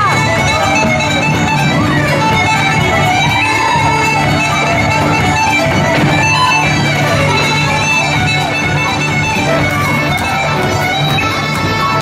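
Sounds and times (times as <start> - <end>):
fiddle music: 0.0 - 12.0
guitar accompaniment: 0.0 - 12.0.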